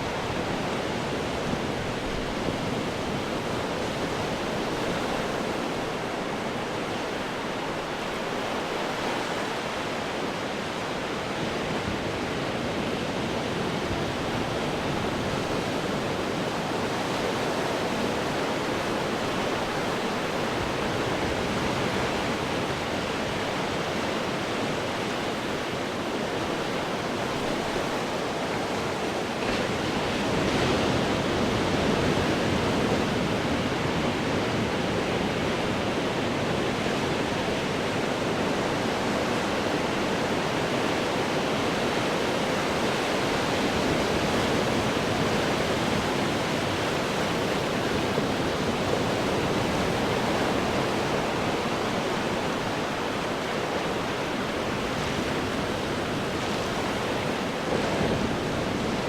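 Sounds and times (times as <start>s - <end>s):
surf washing over rocks: 0.0s - 59.0s.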